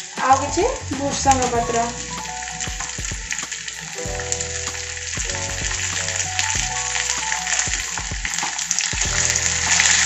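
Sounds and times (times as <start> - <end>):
background music: 0.0 - 10.0
leaves sizzling in hot oil: 0.0 - 10.0.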